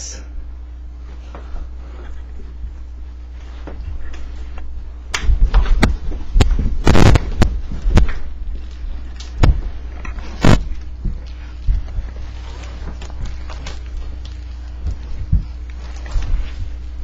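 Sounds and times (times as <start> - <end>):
bodies thumping and scuffling: 1.0 - 17.0.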